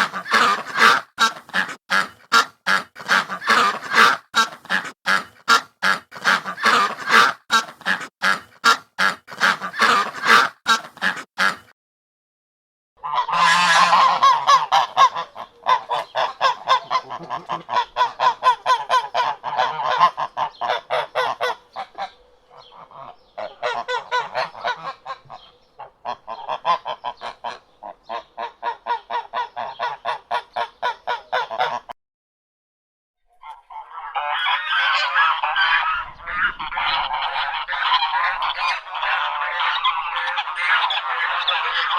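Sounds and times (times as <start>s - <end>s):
waterfowl flock calling: 0.0s - 11.7s, 13.0s - 31.9s, 33.4s - 41.9s.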